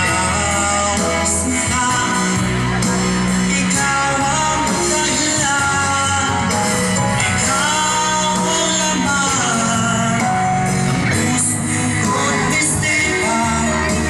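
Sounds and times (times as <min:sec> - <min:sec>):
song with singing and instruments: 0:00.0 - 0:14.0.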